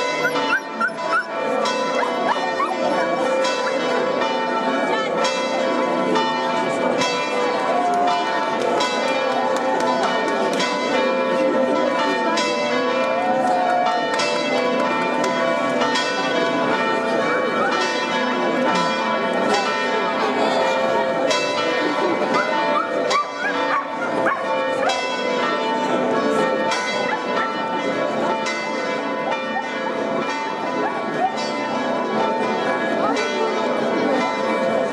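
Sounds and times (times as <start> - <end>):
church bells pealing: 0.0 - 34.9
crowd chatter: 0.0 - 34.9.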